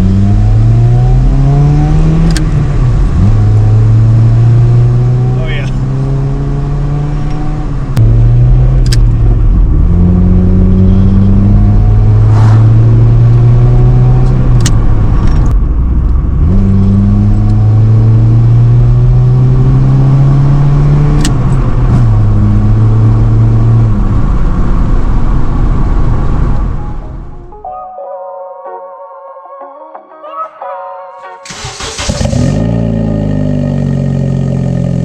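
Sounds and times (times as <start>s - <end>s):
car engine revving: 0.0s - 27.5s, 31.5s - 35.0s.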